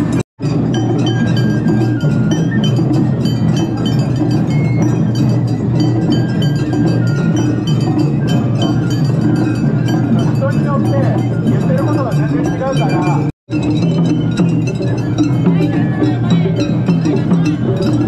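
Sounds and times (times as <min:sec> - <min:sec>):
fast drum strikes: 0:00.0 - 0:18.0.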